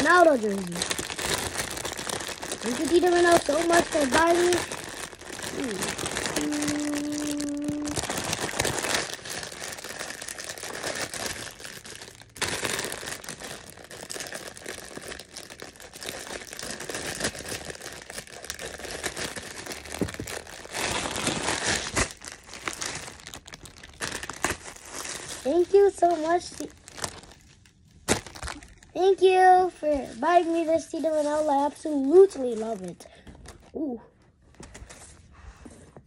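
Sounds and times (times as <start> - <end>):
plastic bags crinkling: 0.0 - 29.0, 29.9 - 33.7.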